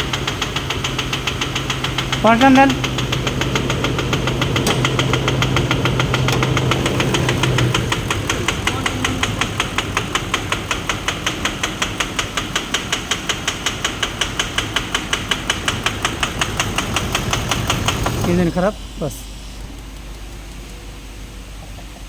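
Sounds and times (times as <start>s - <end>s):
steady hum: 0.0s - 12.2s, 15.0s - 21.8s
diesel engine knocking: 0.0s - 21.9s.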